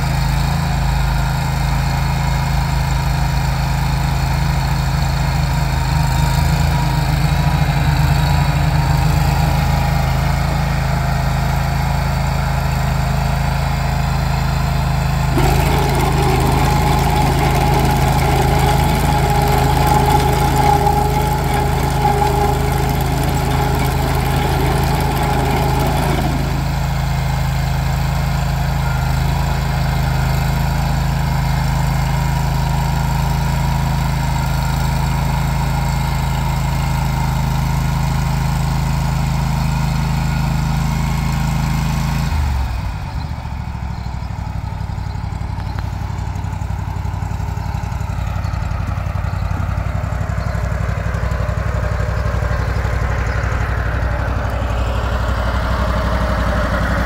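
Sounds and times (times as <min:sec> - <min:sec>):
trencher engine running: 0:00.0 - 0:57.0.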